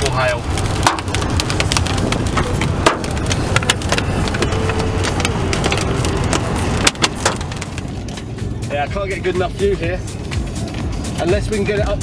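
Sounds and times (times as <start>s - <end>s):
car road and engine rumble: 0.0s - 12.0s
raindrops tapping on windshield: 0.0s - 12.0s.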